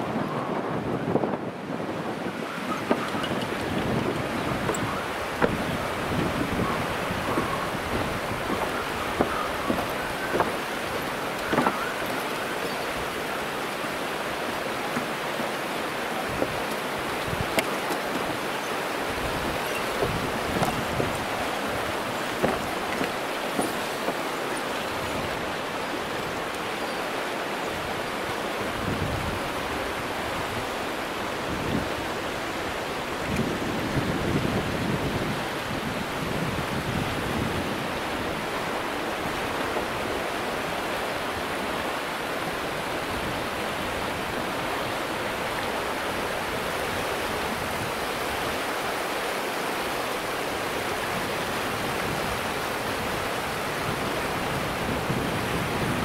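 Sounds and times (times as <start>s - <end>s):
rushing flowing water: 0.0s - 56.0s.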